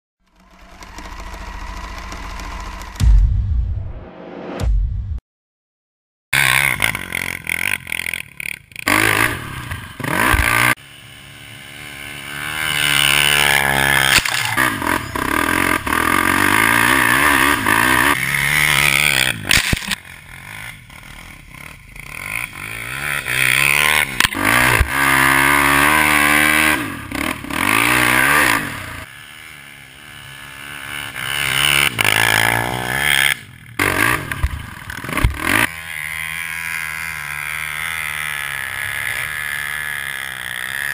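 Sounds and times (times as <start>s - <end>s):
quad engine revving: 0.2s - 3.1s, 6.4s - 40.9s.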